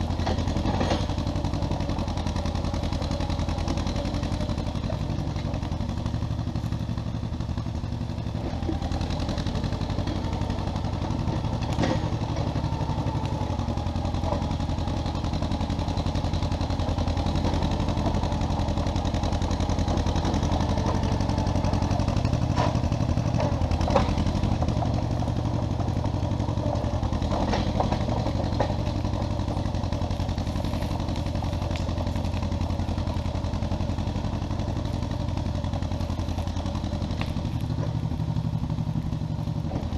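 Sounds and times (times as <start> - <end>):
crawler engine running: 0.0 - 39.9.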